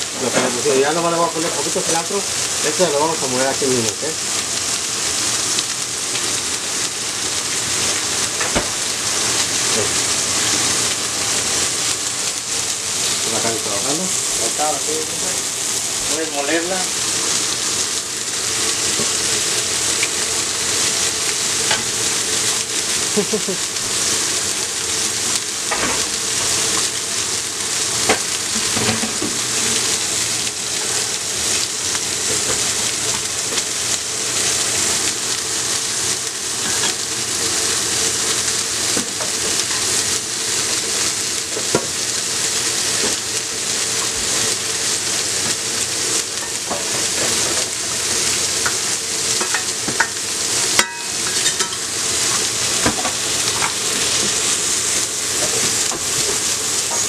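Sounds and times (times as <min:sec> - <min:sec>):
salsa sizzling in a pan: 0:00.0 - 0:57.0.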